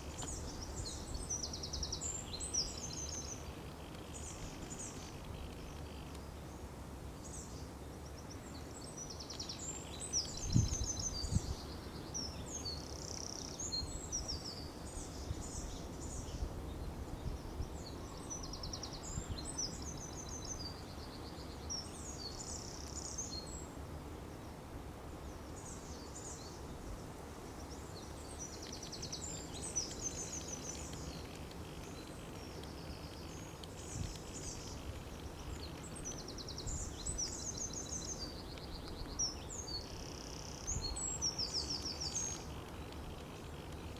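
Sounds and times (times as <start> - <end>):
songbirds trilling: 0.0 - 43.9.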